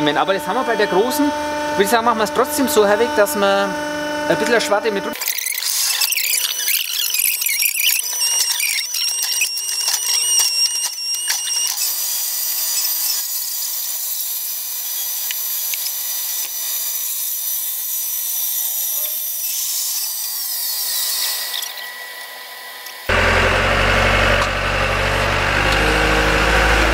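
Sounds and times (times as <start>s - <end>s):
band saw whining through log: 0.0s - 26.9s.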